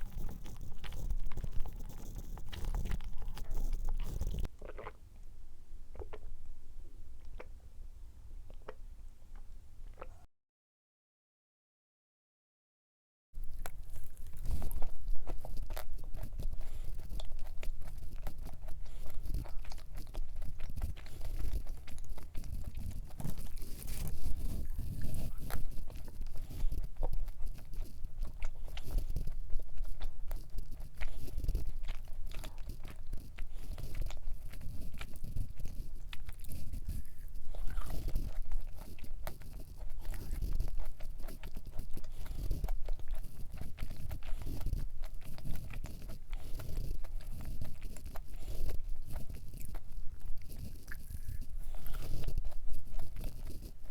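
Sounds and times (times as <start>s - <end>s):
chewing cookie close up: 0.0s - 5.3s, 5.9s - 6.4s, 7.2s - 7.6s, 8.5s - 10.3s, 13.4s - 53.9s.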